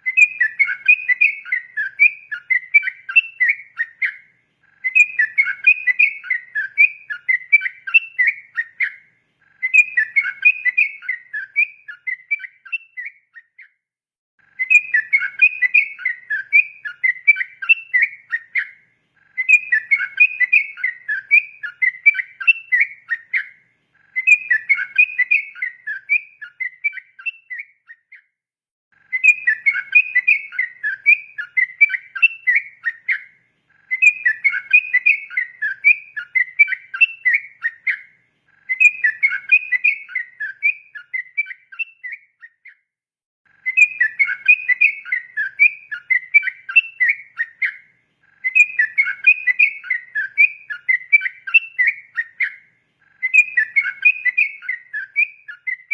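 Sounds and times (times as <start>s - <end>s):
bird singing bubbly whistles: 0.0s - 13.8s, 14.6s - 28.3s, 29.1s - 42.8s, 43.6s - 55.9s.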